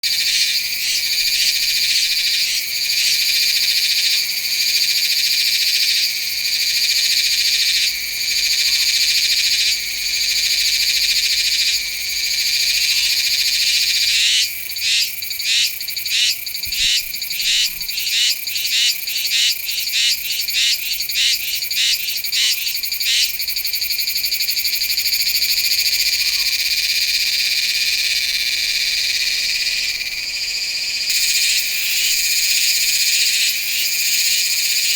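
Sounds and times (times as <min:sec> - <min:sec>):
cicada buzzing: 0:00.0 - 0:34.9.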